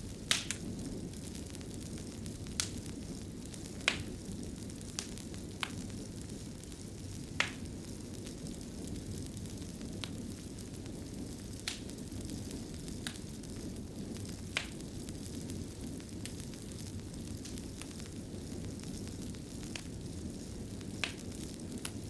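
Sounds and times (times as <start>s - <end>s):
fire popping: 0.0s - 22.0s
fire rumbling and crackling: 0.0s - 22.0s.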